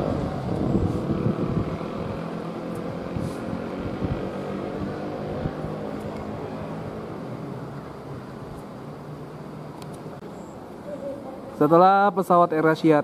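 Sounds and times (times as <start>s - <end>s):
distant jet engines drone: 0.0s - 11.6s.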